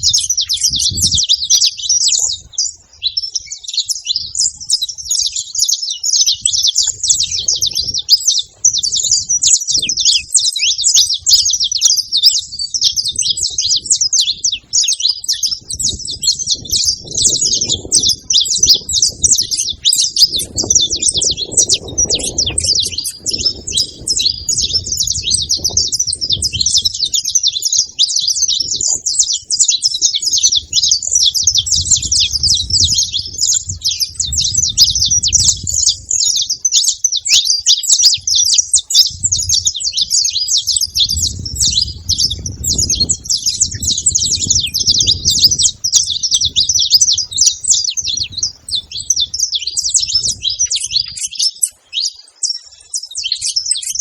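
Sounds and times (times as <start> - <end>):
finches chirping and singing: 0.0 - 54.0.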